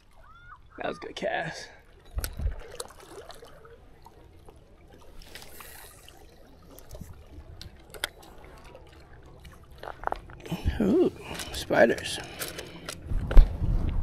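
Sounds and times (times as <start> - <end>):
water lapping at shoreline: 0.0 - 13.1.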